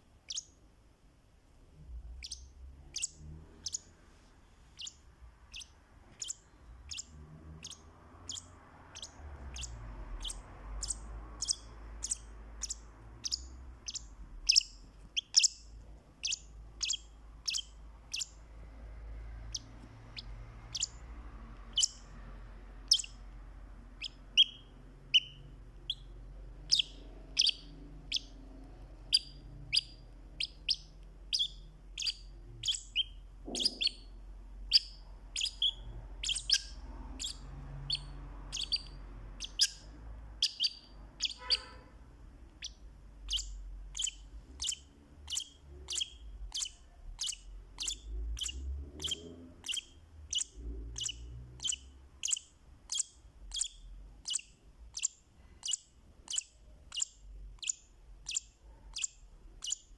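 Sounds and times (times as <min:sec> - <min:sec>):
lovebird high-pitched chirps: 0:00.2 - 0:00.6, 0:02.2 - 0:04.0, 0:04.8 - 0:18.4, 0:19.4 - 0:22.2, 0:22.8 - 0:23.3, 0:23.9 - 0:59.9.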